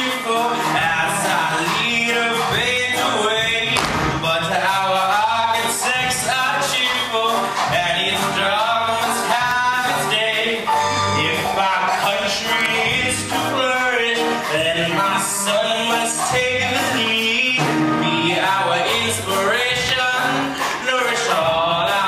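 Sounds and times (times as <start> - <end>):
band accompaniment: 0.0 - 22.0
man singing: 0.0 - 22.0.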